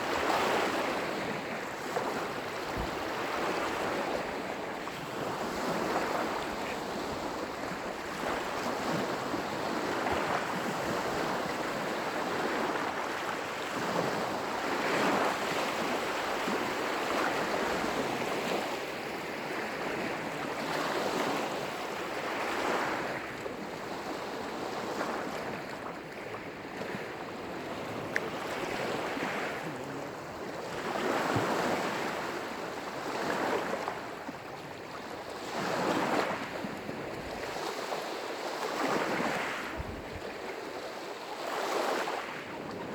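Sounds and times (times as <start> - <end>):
lake waves breaking on shore: 0.0 - 42.9.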